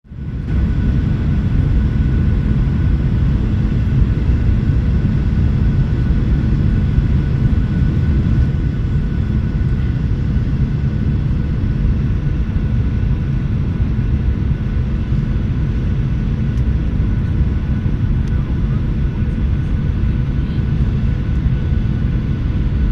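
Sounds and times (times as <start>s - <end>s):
jet engines rumbling: 0.1s - 22.9s.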